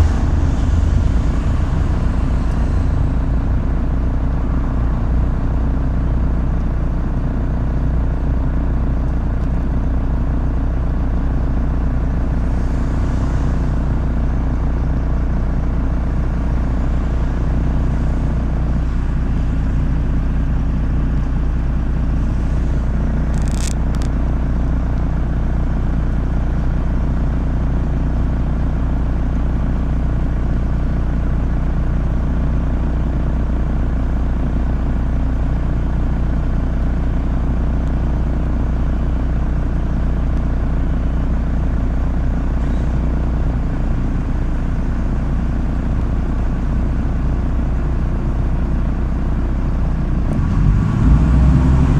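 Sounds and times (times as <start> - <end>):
bus engine and road noise: 0.0 - 51.9.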